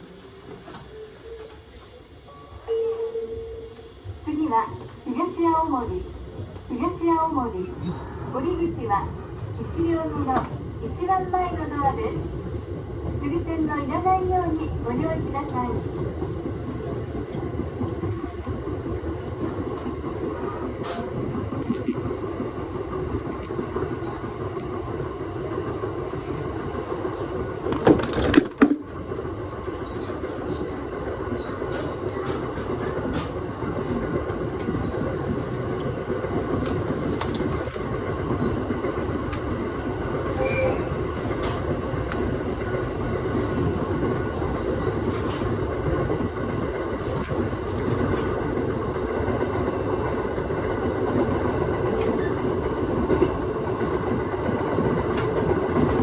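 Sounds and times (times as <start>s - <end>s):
train wheels rumbling: 2.6s - 56.0s.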